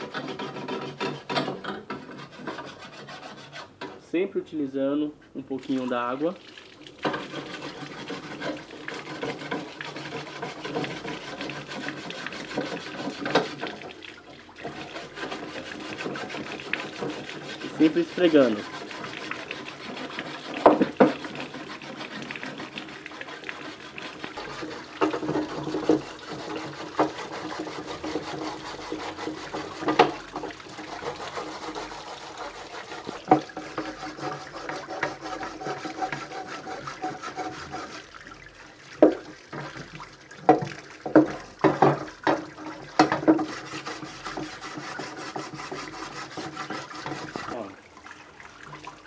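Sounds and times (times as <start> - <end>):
brick scraping metal grill: 0.0 - 4.2, 7.0 - 14.0, 14.6 - 38.2, 40.5 - 47.7
water pouring from a hose: 5.5 - 49.0.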